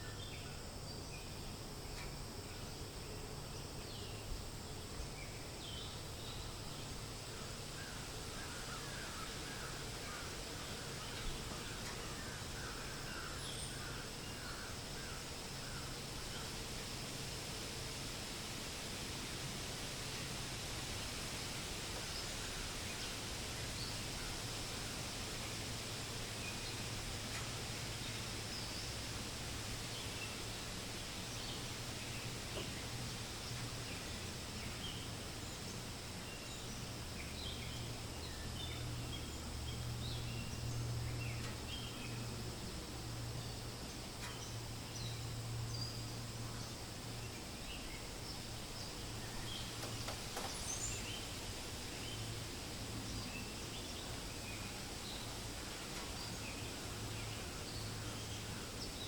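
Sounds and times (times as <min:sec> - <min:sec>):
low steady hum: 0:00.0 - 0:59.0
wind through leaves: 0:00.0 - 0:59.0.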